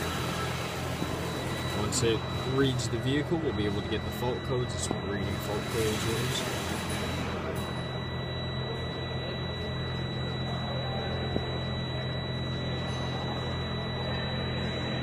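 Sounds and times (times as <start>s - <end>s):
high-pitched whine: 0.0s - 15.0s
machine hum: 0.0s - 15.0s.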